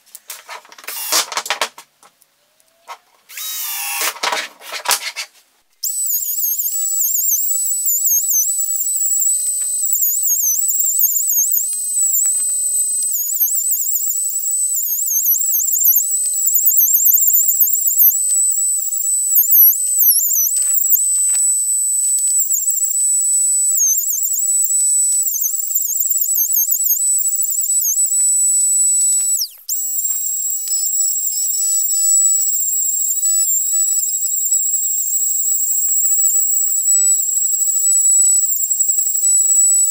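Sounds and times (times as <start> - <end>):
router whining cutting wood: 3.3 - 4.3, 5.8 - 39.9.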